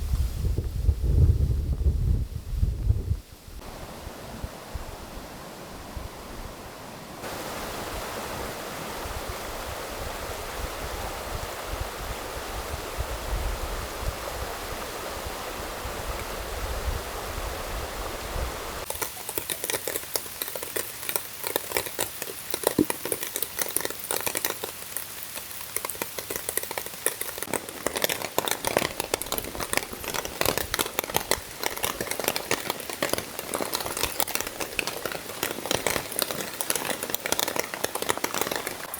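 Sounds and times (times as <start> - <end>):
rain and running water hiss: 0.0 - 38.9
crackling patter of raindrops: 2.7 - 38.9.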